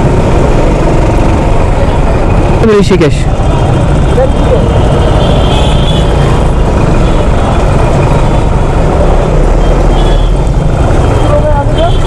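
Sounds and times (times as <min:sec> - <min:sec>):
rumble of traffic: 0:00.0 - 0:12.0.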